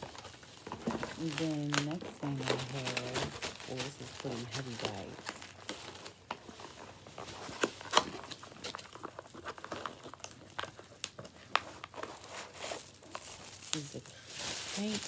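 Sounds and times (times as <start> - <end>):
packaging crinkling: 0.0 - 15.0
packaging snapping: 0.0 - 15.0.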